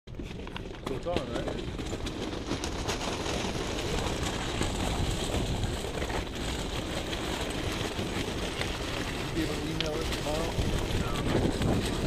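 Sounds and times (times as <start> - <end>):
stones crackling: 0.1 - 12.0
tyres rumbling over gravel: 0.1 - 12.0
wind rushing over microphone: 1.5 - 12.0.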